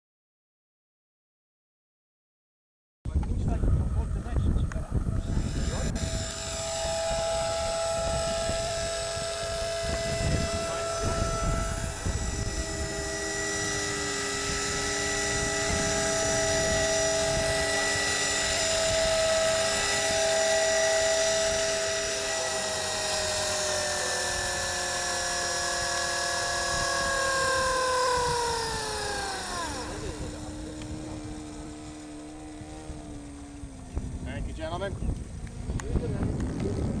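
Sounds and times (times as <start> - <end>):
rc helicopter motor whine: 3.2 - 37.0.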